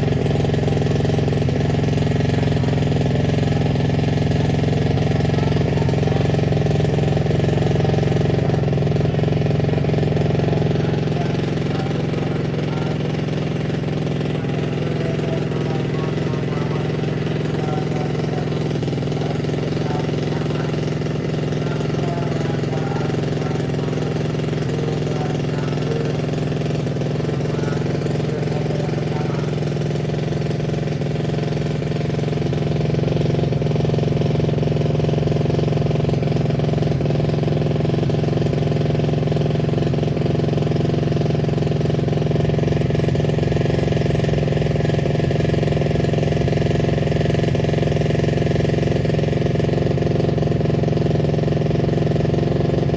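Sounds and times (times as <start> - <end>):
motorbike engine idling: 0.0 - 52.9.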